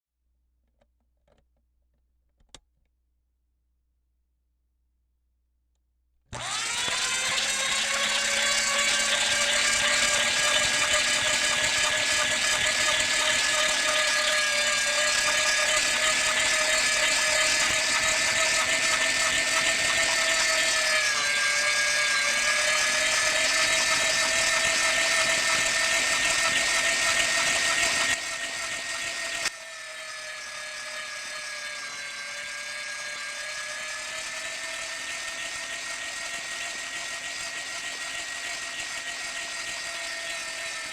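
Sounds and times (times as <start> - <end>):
meat grinder motor whine: 6.3 - 40.9.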